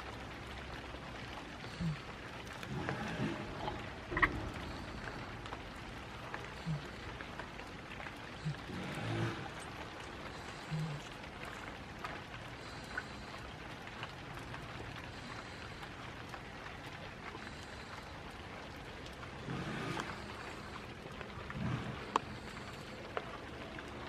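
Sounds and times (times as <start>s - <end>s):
drip ticks: 0.0s - 24.0s
steady rain falling: 0.0s - 24.0s.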